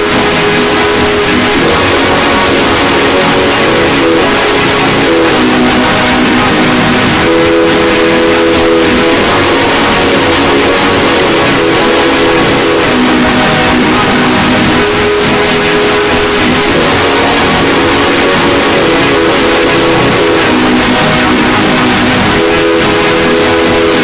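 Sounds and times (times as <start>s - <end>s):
harsh distorted electronic noise: 0.0s - 24.0s
held electronic tones: 0.0s - 24.0s.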